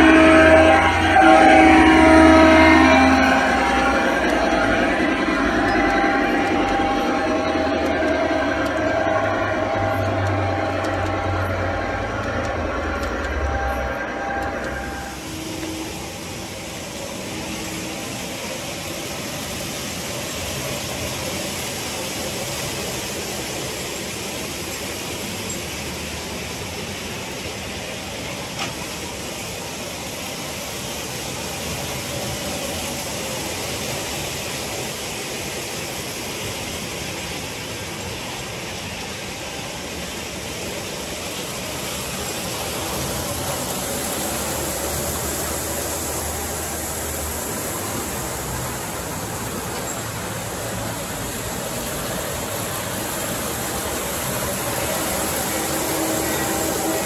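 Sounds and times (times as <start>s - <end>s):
constant hiss: 0.0s - 57.0s
model train rumble and rail noise: 0.0s - 57.0s.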